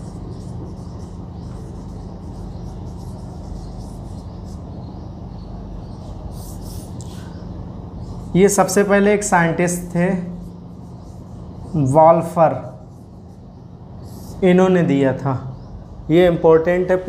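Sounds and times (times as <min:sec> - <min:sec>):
marker squeaking on whiteboard: 0:00.0 - 0:08.9, 0:09.7 - 0:14.8.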